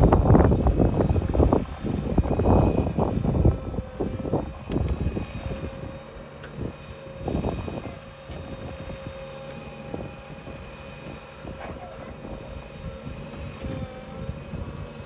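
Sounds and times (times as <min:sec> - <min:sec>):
diesel engine running: 0:00.0 - 0:15.0
low rumble gusts: 0:00.0 - 0:15.0.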